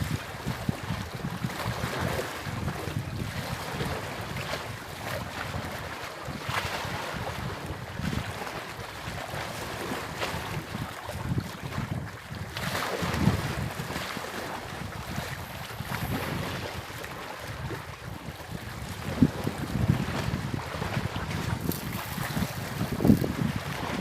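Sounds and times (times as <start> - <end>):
sea waves: 0.0 - 24.0
wind buffeting microphone: 0.0 - 24.0.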